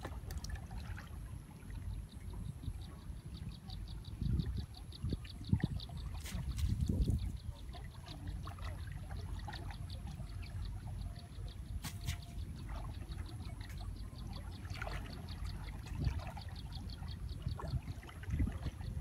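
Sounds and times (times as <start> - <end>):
steady low rumble: 0.0 - 19.0
water trickling and splashing: 0.0 - 19.0.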